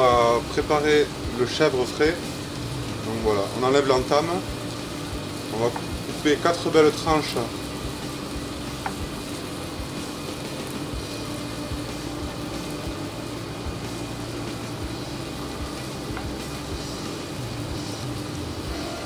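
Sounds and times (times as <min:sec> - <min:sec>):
onions sizzling in a pan: 0:00.0 - 0:19.0
ventilation hum: 0:00.0 - 0:19.0.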